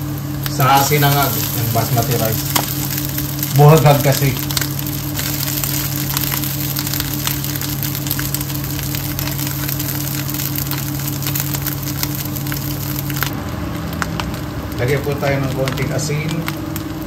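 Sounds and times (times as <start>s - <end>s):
rice sizzling in a pan: 0.0s - 17.0s
steady low hum: 0.0s - 17.0s.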